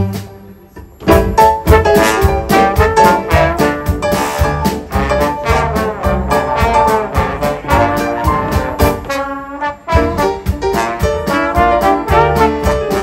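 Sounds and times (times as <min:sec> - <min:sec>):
trombone section playing jazz: 0:00.0 - 0:13.0.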